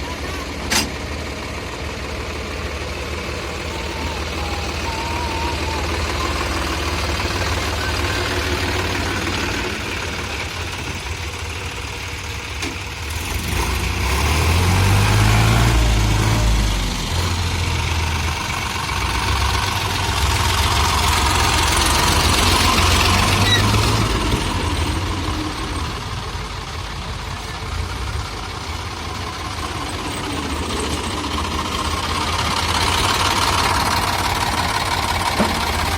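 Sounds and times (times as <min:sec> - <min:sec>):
diesel machinery engine running: 0:00.0 - 0:35.9.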